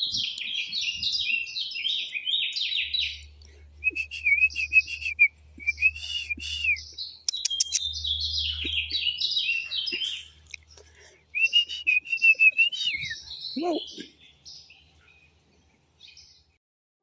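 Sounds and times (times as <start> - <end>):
songbird whistling song: 0.0 - 15.2.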